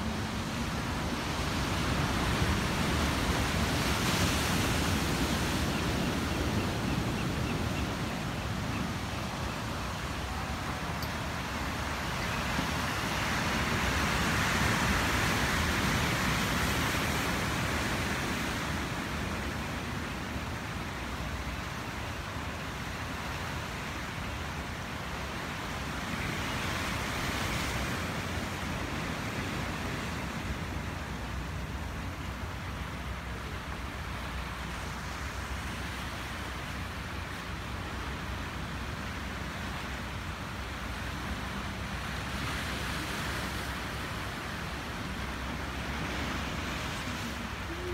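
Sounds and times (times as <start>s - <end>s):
ocean surf breaking over rocks: 0.0s - 47.9s.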